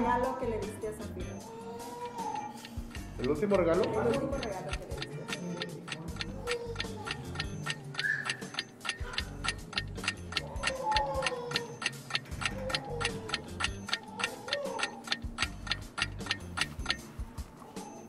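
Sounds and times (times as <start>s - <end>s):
light background music: 0.0s - 18.0s
clock ticking rapidly: 2.3s - 17.1s.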